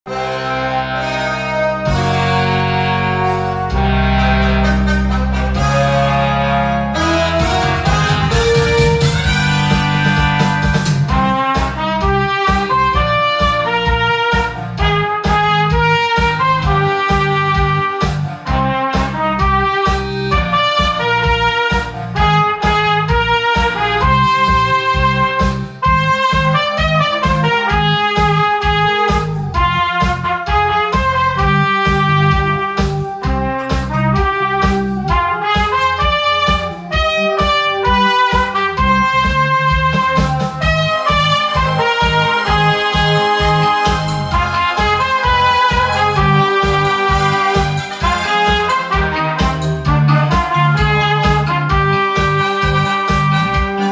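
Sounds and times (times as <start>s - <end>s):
cornet playing melody: 0.0s - 53.9s
backing track with bass and beat: 0.1s - 53.9s.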